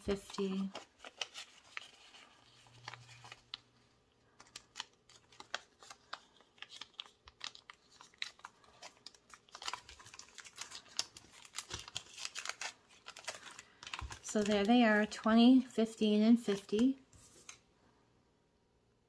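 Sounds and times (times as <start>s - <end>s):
banknotes crinkling and tapping: 0.0s - 17.6s.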